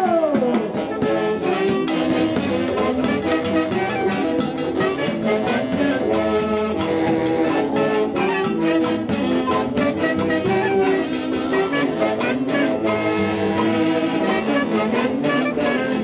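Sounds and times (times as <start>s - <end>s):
steady percussion beat: 0.0s - 16.0s
horns playing held notes: 0.5s - 16.0s.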